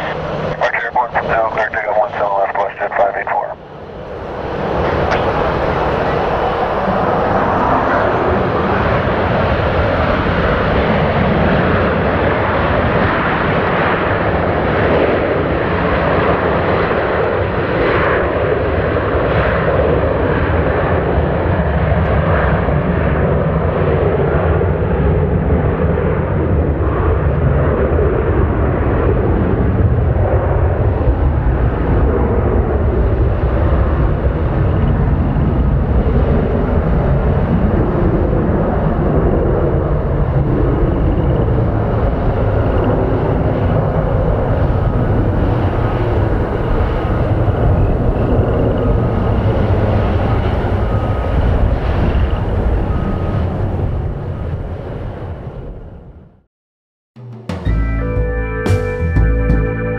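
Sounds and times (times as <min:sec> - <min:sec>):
jet engines at takeoff power: 0:00.0 - 0:56.5.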